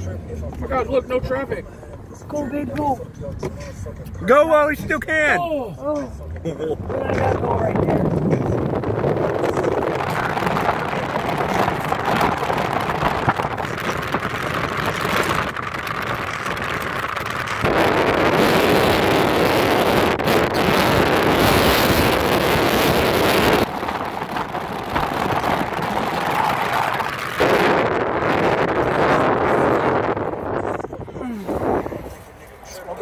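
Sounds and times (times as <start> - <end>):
road and wind noise inside car: 0.0 - 33.0.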